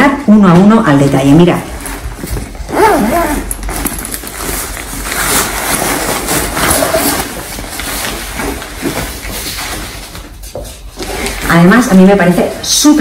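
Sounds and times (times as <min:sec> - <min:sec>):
fabric bag rustling: 0:01.2 - 0:13.0.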